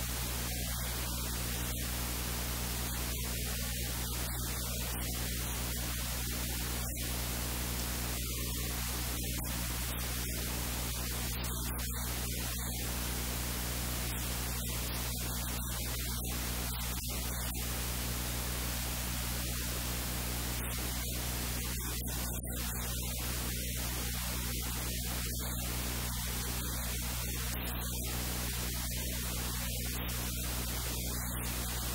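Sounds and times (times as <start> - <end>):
static hiss: 0.0 - 31.9.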